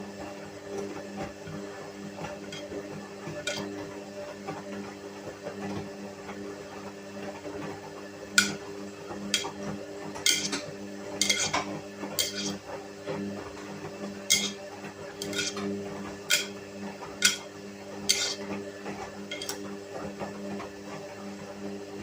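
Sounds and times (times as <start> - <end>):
washing machine motor humming: 0.1 - 4.8, 5.8 - 22.0.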